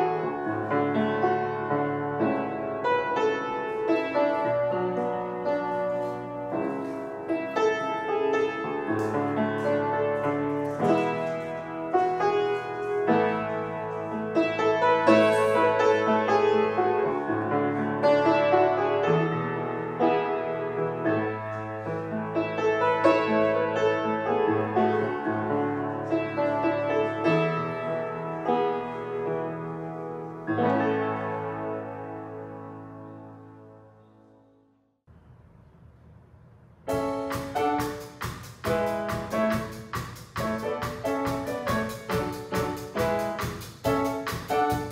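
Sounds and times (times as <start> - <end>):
solo piano piece: 0.0 - 44.9.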